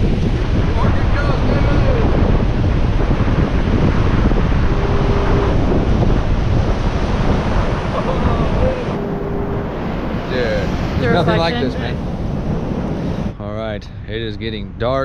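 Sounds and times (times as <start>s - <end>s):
surf washing onto beach: 0.0s - 13.3s
wind buffeting microphone: 0.0s - 15.0s.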